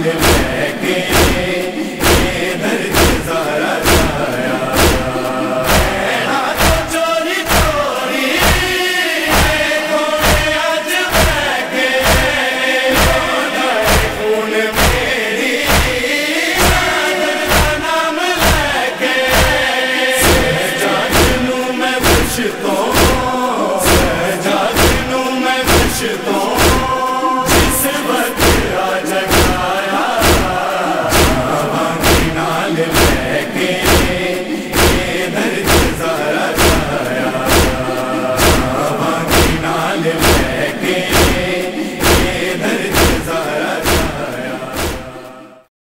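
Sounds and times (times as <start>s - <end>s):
men chanting in unison: 0.0s - 45.7s
sharp rhythmic beat: 0.0s - 45.7s.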